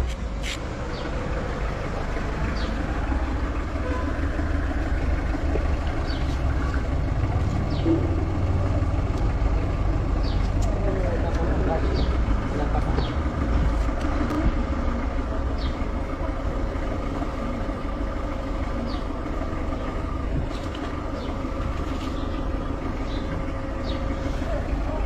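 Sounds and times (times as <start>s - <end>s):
vehicle rumble: 0.0s - 25.0s.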